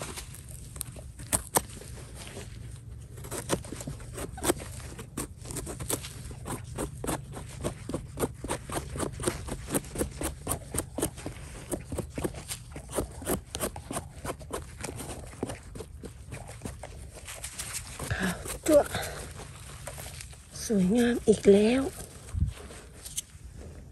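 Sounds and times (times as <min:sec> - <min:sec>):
knife scraping soil off stem: 0:00.0 - 0:20.4.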